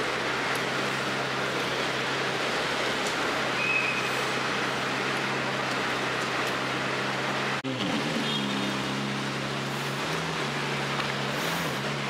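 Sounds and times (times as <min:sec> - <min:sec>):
rain falling on wet pavement: 0:00.0 - 0:12.0.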